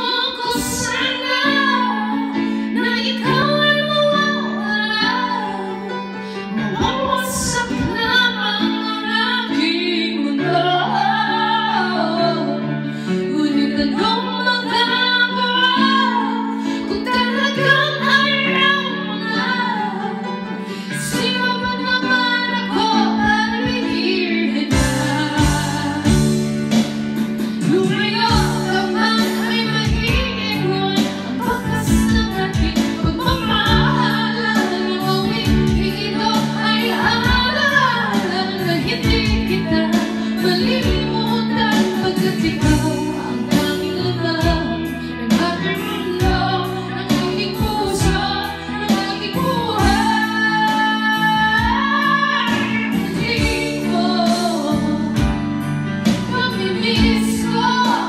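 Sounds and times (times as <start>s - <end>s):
karaoke backing track: 0.0s - 58.0s
woman singing a ballad: 0.0s - 58.0s.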